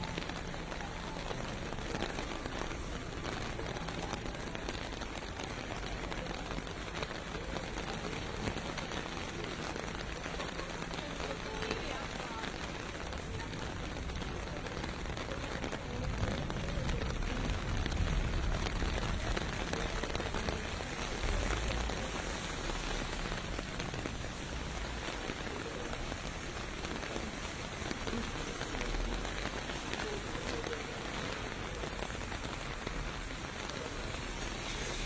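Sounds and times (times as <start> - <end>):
distant traffic rumble: 0.0 - 35.0
rain falling on pavement: 0.0 - 35.0.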